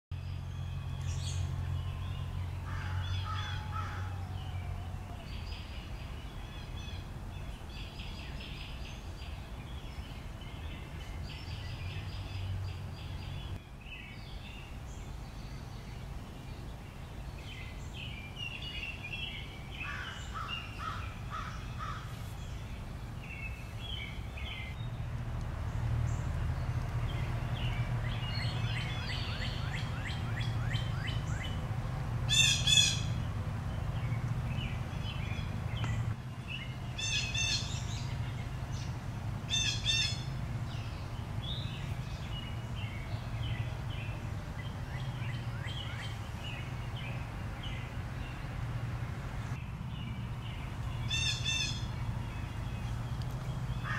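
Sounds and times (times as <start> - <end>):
birds calling: 0.2 - 53.9.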